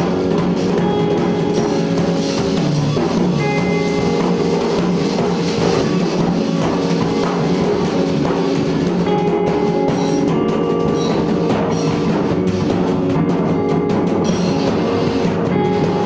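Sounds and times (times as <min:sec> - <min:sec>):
music with drums and percussion: 0:00.0 - 0:16.0.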